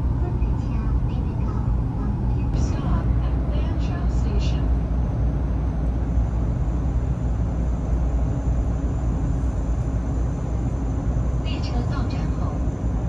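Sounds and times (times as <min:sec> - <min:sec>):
train cabin rumble: 0:00.0 - 0:13.0.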